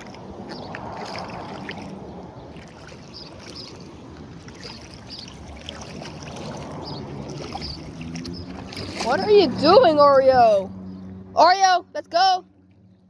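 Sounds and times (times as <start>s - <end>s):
water sloshing and splashing: 0.0s - 11.8s.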